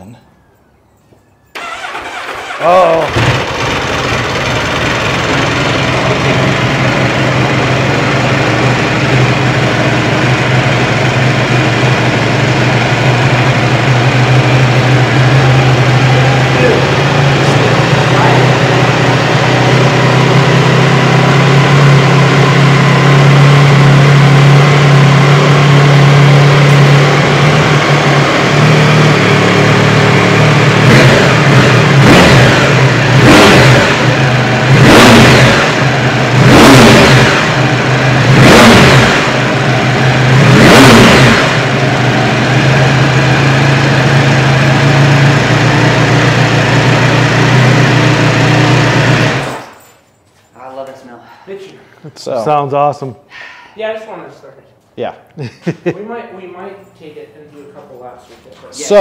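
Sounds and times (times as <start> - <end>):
motorcycle engine idling and revving: 1.6 - 49.9.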